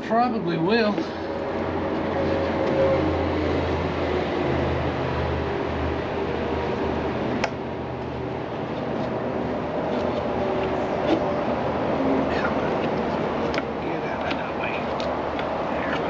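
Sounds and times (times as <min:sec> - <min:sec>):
mechanical fan hum: 0:00.0 - 0:16.0.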